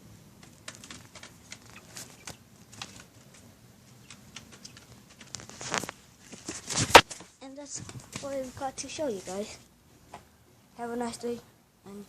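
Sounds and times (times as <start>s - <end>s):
baby birds pecking and scratching: 0.4s - 10.3s.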